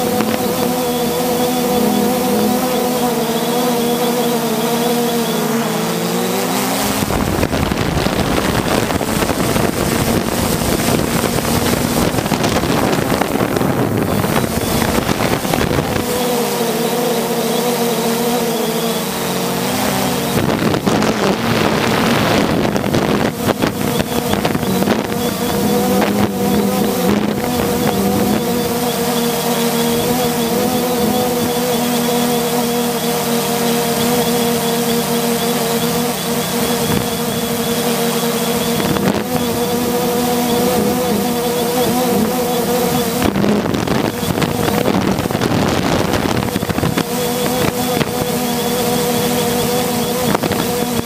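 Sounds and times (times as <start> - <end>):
quadcopter propellers droning: 0.0 - 51.0
wind on microphone: 0.0 - 51.0.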